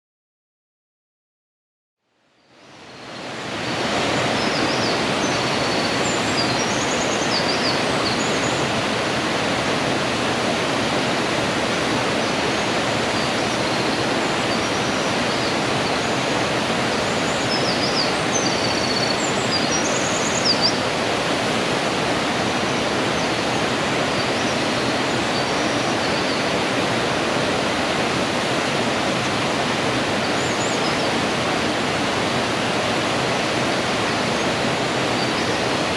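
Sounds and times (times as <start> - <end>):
mountain stream rushing: 2.4 - 35.9.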